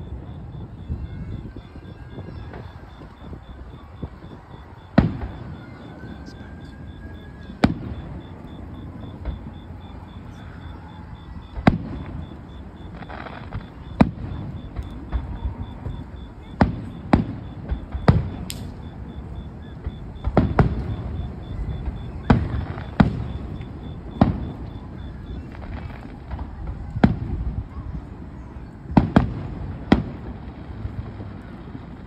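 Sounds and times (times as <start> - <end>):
distant firework booms: 0.0 - 10.4, 11.4 - 27.7, 28.9 - 32.0.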